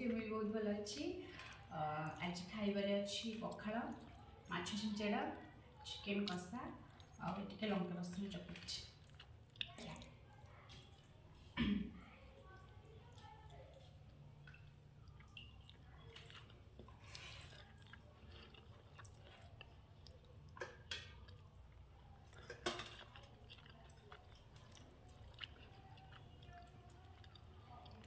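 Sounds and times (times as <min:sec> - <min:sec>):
wet chewing of food: 0:00.0 - 0:28.0.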